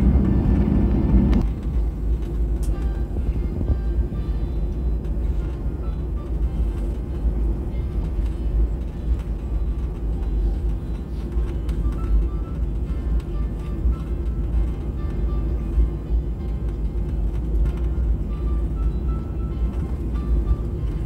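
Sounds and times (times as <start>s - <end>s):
jet cabin rumble while taxiing: 0.0s - 21.0s.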